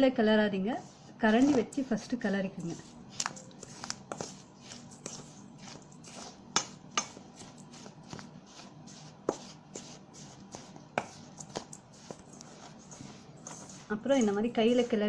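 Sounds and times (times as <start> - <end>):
ladle stirring dough in bowl: 0.3 - 15.0.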